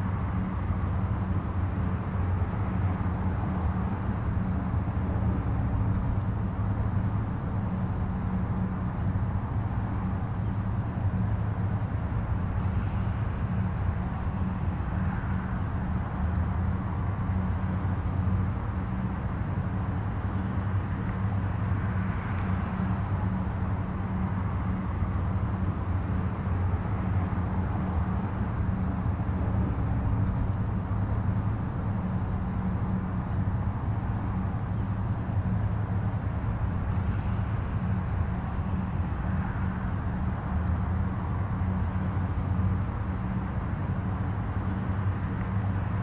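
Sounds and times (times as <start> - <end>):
distant highway traffic: 0.0 - 46.0.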